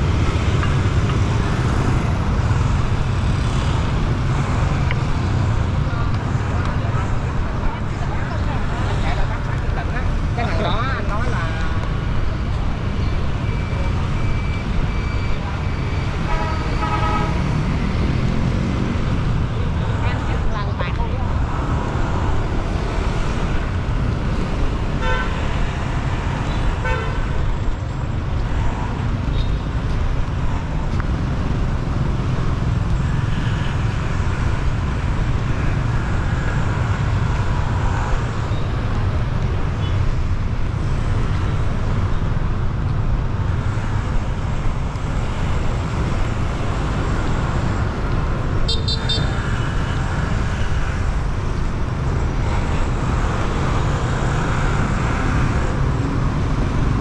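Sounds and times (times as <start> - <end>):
street traffic passing: 0.0 - 57.0.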